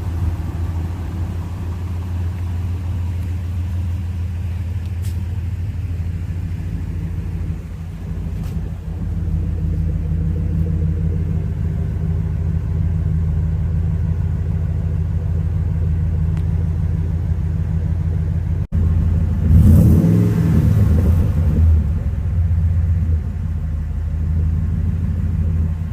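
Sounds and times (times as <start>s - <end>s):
truck exhaust deep rumble: 0.0s - 25.9s.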